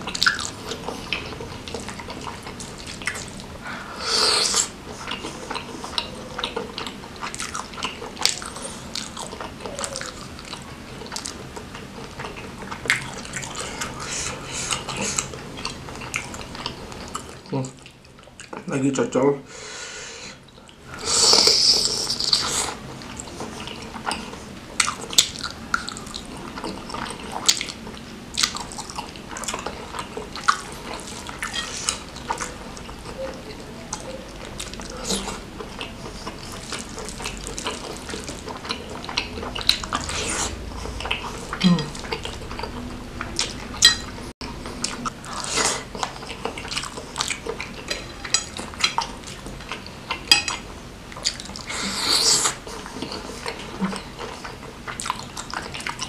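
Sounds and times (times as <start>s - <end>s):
wet chewing and lip smacks: 0.0s - 3.6s, 4.5s - 18.6s, 20.6s - 56.0s.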